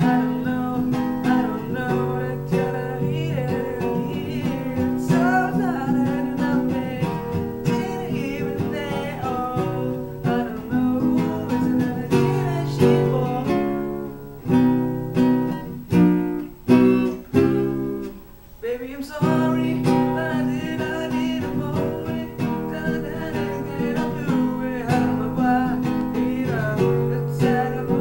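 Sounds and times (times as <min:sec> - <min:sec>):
man singing: 0:00.0 - 0:14.2, 0:18.6 - 0:28.0
nylon-string guitar strumming: 0:00.0 - 0:28.0.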